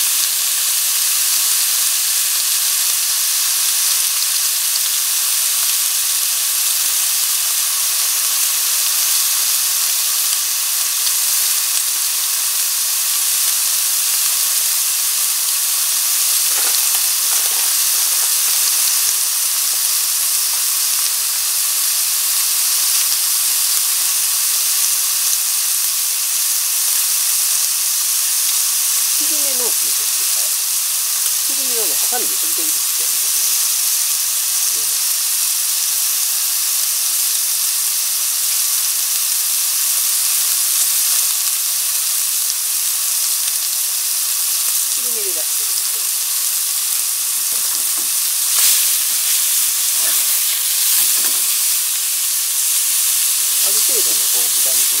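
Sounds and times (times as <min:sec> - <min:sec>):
meat sizzling in a frying pan: 0:00.0 - 0:55.0.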